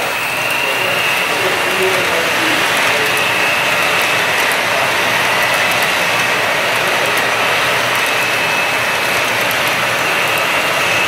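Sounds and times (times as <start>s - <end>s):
model train wheels rolling on track: 0.0s - 11.0s.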